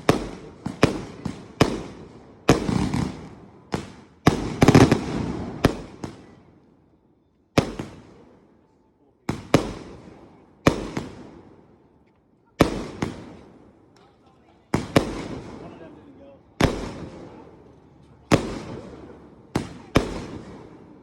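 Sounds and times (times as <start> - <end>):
fireworks bangs echoing: 0.0 - 6.5, 7.6 - 8.5, 9.3 - 11.9, 12.6 - 21.0.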